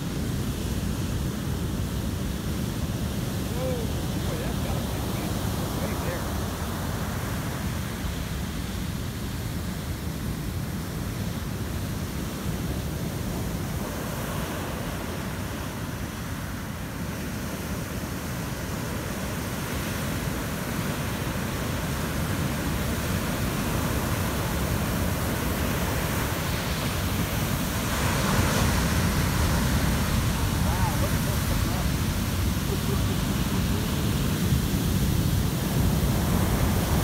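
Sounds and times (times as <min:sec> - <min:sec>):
heavy ocean surf breaking: 0:00.0 - 0:37.0.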